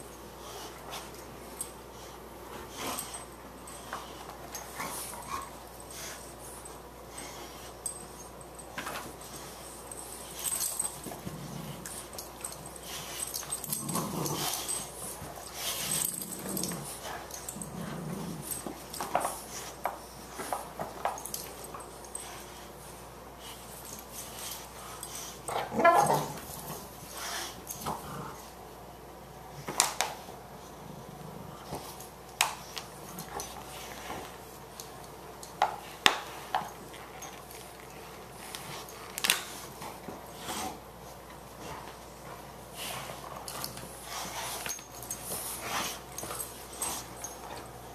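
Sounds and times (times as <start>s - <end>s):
dogs play growling: 0.2s - 28.8s, 29.4s - 47.9s.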